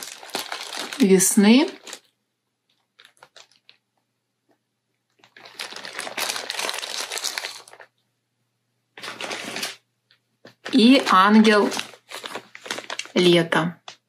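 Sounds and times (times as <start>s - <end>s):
plastic wrapping crinkling: 0.0s - 4.0s, 5.1s - 8.0s, 9.0s - 14.0s.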